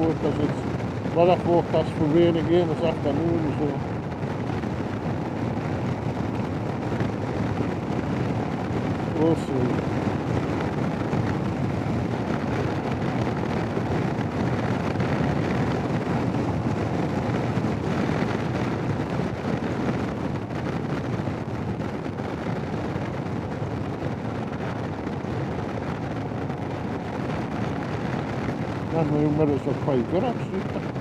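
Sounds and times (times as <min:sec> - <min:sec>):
wind rush while riding: 0:00.0 - 0:31.0.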